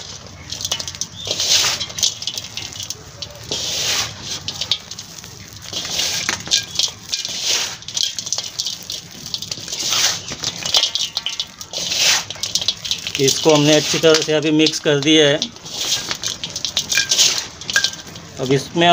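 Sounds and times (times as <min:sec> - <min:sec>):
grit clicks: 0:00.0 - 0:18.9
soil pouring by hand in metal tub: 0:00.0 - 0:18.9.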